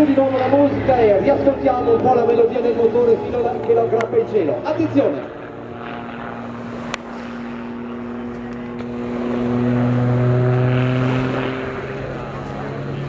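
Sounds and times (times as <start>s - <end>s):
plane engine and propeller droning: 0.0s - 13.0s.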